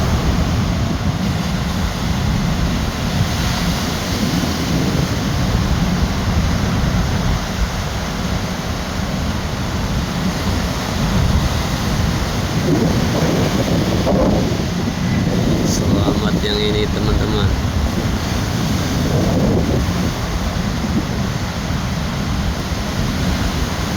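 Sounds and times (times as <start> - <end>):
ocean surf breaking: 0.0 - 23.9
wind buffeting microphone: 0.0 - 23.9.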